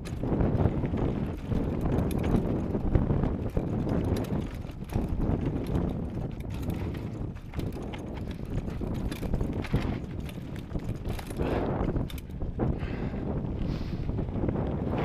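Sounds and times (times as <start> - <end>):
tyres rumbling on gravel: 0.0 - 12.2
bike knocking and rattling: 0.0 - 15.0.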